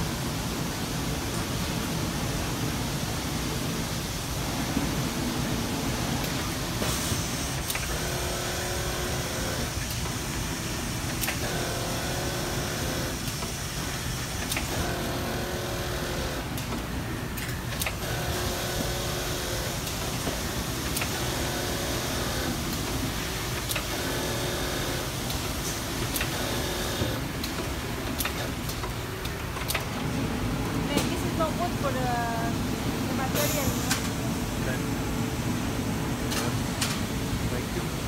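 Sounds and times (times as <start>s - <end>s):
factory hum: 0.0s - 38.0s.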